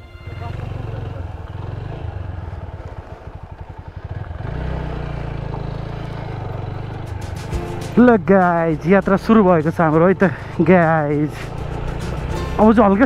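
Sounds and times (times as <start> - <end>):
motorcycle engine at low revs: 0.3 - 13.0
tyres rolling on gravel: 1.2 - 13.0.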